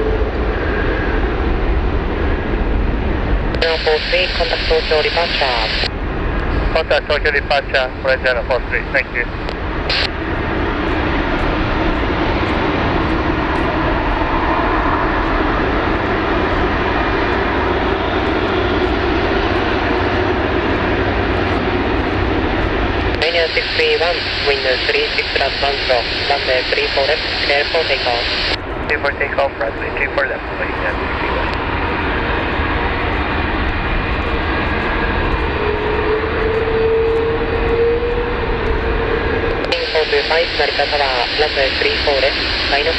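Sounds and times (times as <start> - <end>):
jet engines running: 0.0 - 42.9.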